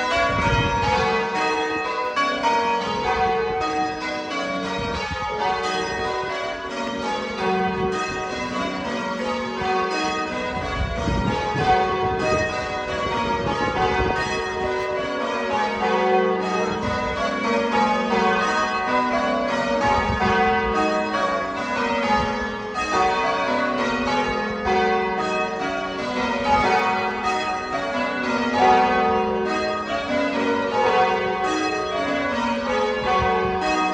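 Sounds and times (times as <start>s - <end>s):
church bells ringing: 0.0s - 33.9s.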